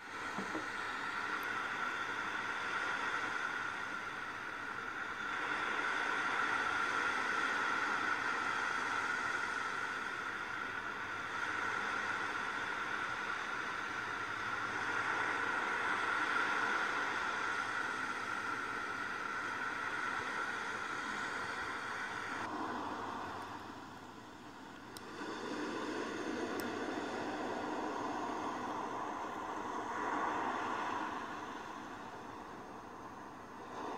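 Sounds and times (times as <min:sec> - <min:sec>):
ocean waves washing on shore: 0:00.1 - 0:33.9.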